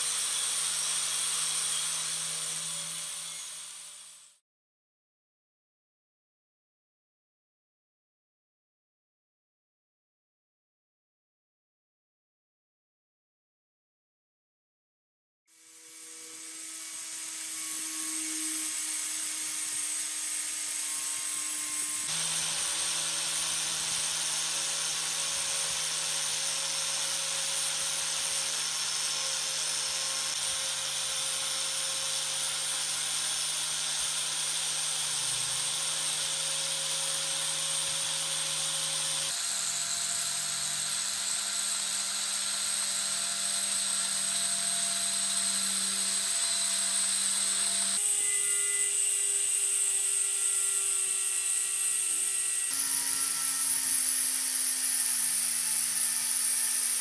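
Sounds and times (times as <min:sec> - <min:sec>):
electric sander grinding metal: 0:00.0 - 0:04.4, 0:15.5 - 0:57.0.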